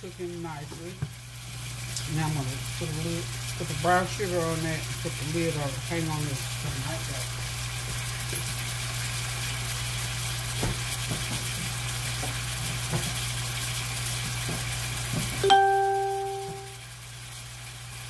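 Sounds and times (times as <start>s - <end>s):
food sizzling in a skillet: 0.0s - 18.0s.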